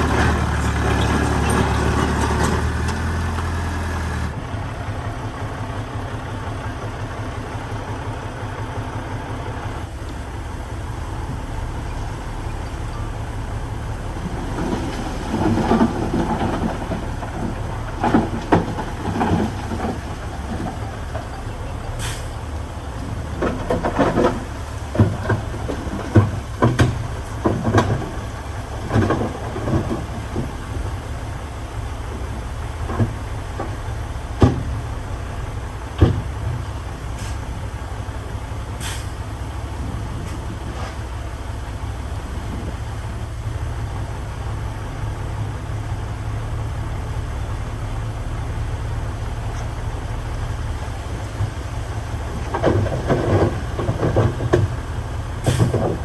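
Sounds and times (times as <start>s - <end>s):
diesel earthmoving machine running: 0.0s - 56.0s.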